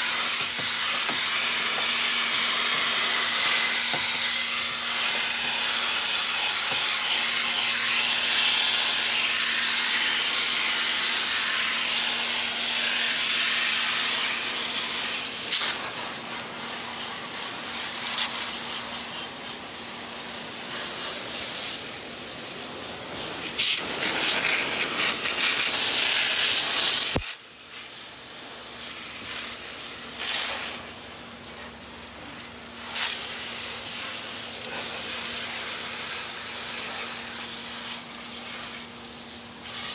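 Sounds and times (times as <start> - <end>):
hose spraying water: 0.0 - 39.9.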